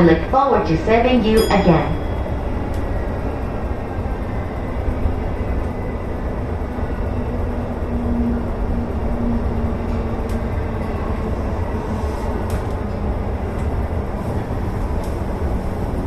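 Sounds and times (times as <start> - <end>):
electric train rumbling on rails: 0.0 - 16.0.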